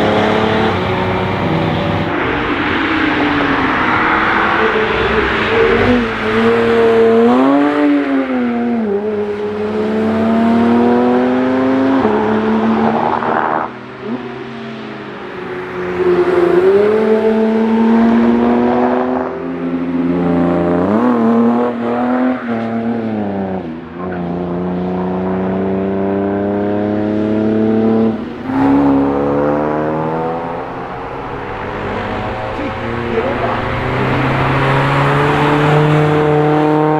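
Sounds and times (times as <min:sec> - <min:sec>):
race cars accelerating past: 0:00.0 - 0:36.9.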